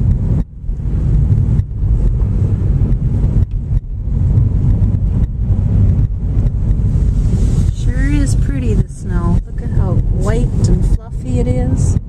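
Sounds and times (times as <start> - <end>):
car driving on snowy road: 0.0 - 12.0
wind buffeting: 0.0 - 12.0.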